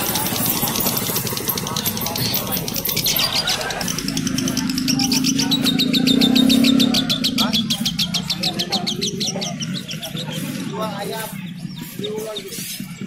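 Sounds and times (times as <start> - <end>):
caged birds chirping rapidly: 0.0 - 13.0.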